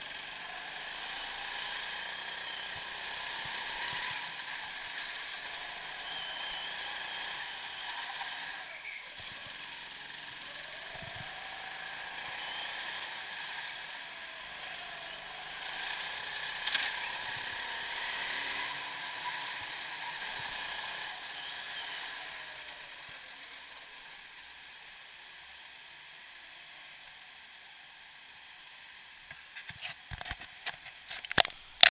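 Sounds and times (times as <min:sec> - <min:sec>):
go-kart whirring hiss: 0:00.0 - 0:29.1.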